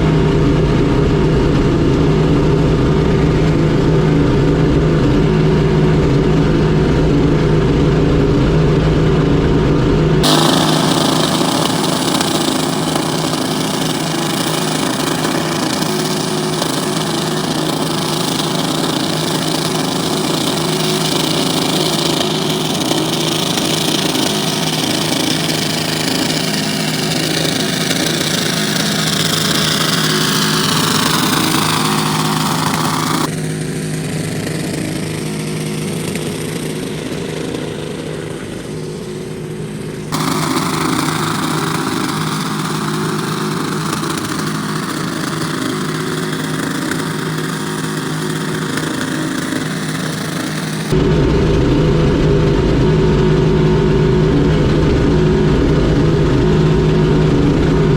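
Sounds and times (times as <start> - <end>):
engine running at high revs: 0.0 - 57.9.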